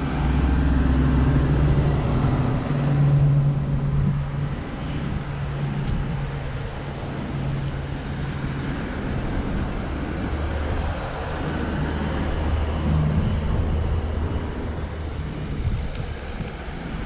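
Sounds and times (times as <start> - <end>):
deeper engine note: 0.0 - 16.6.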